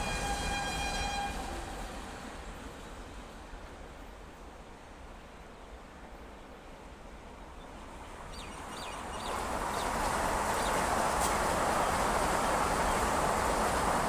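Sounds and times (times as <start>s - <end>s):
oncoming train rushing: 0.0s - 5.2s, 7.5s - 14.0s.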